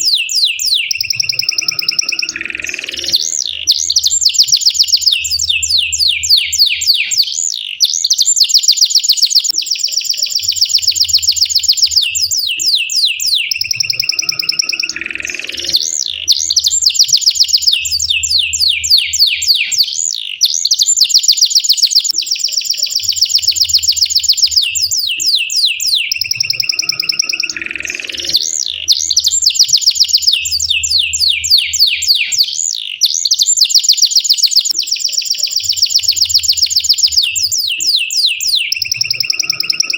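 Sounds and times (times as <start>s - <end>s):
canary singing rolling trills: 0.0s - 39.9s.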